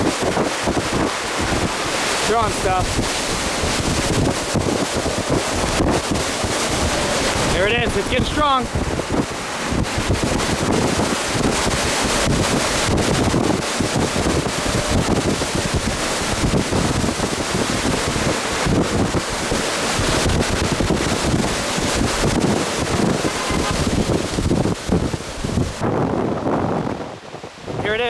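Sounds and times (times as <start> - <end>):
low rumbling: 0.0 - 28.0
strong gusting wind on microphone: 0.0 - 28.0.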